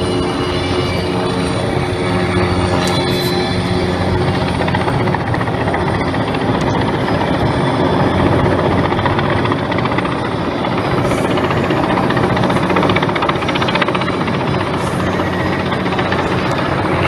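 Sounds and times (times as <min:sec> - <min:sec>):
helicopter engine drone: 0:00.0 - 0:17.0
helicopter rotor beating: 0:00.0 - 0:17.0.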